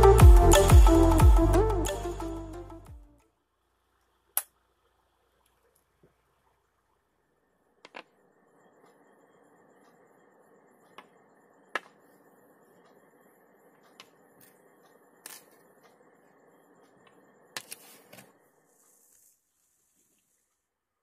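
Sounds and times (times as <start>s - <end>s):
faint room hiss: 3.1s - 21.0s.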